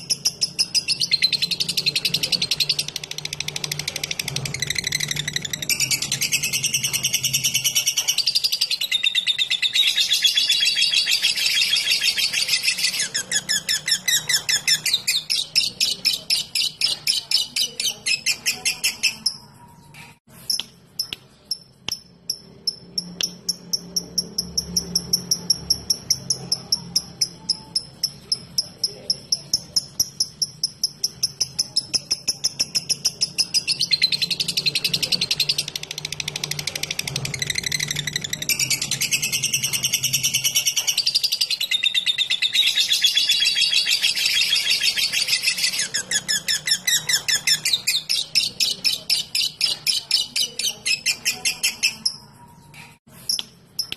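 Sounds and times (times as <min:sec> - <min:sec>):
lovebird chattering song: 0:00.0 - 0:53.9.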